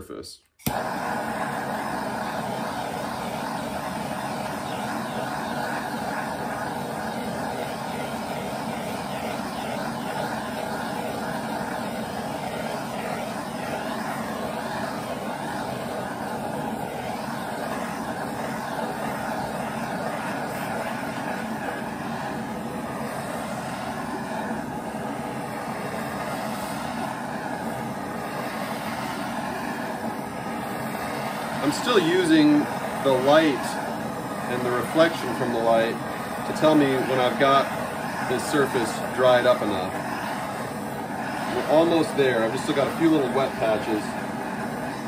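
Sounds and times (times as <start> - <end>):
propane torch hissing: 0.6 - 45.0.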